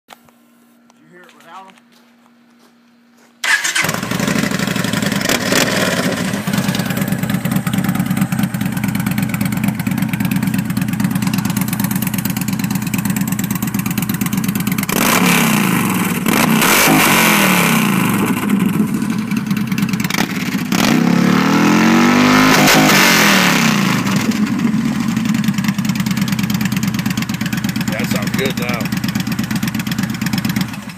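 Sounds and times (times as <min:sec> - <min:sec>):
motorcycle engine idling and revving: 0:03.4 - 0:30.9.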